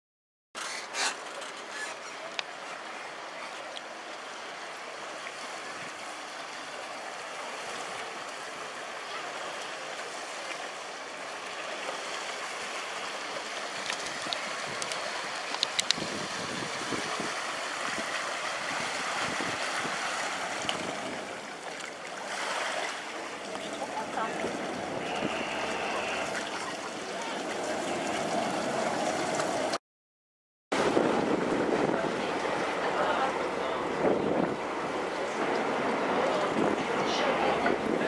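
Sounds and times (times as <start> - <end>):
boat engine noise: 0.6 - 29.8, 30.8 - 38.0
rush of churned water: 0.6 - 29.8, 30.8 - 38.0.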